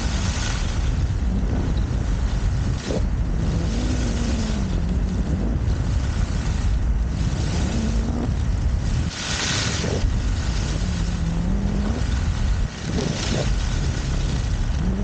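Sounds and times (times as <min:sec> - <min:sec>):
skis sliding over snow: 0:00.0 - 0:15.0
wind buffeting microphone: 0:00.0 - 0:15.0.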